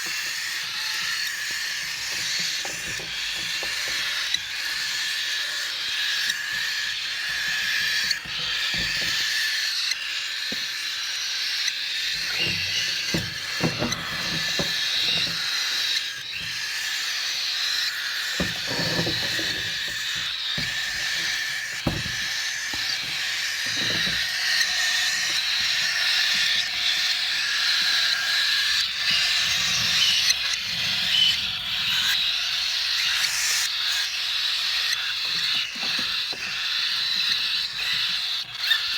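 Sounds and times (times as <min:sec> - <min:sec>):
parrots calling and chattering: 0:00.0 - 0:38.9.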